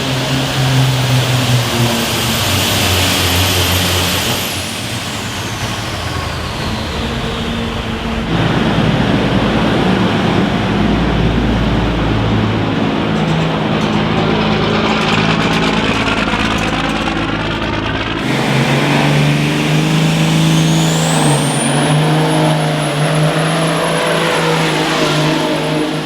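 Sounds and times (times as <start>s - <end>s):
pulling vehicle engine: 0.0s - 26.0s.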